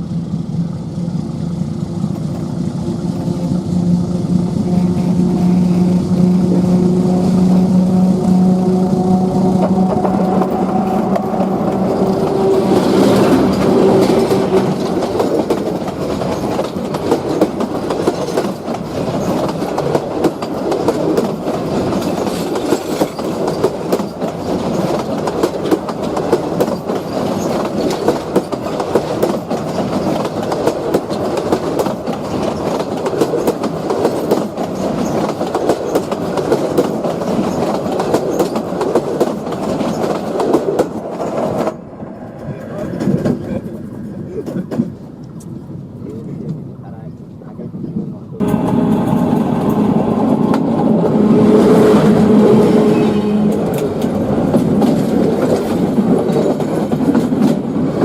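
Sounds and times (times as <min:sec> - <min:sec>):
train wheels clattering over rails: 0:00.2 - 0:46.7, 0:48.0 - 0:58.0.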